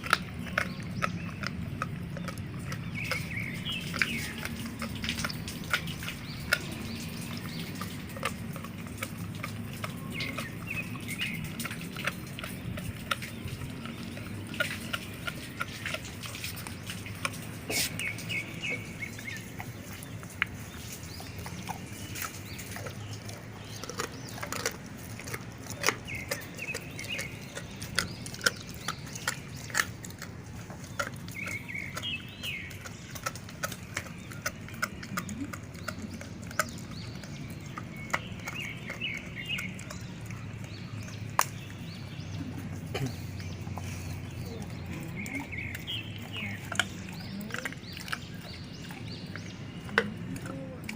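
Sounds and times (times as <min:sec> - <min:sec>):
bird calls: 0:00.0 - 0:50.9
dogs crunching bones: 0:00.0 - 0:50.9.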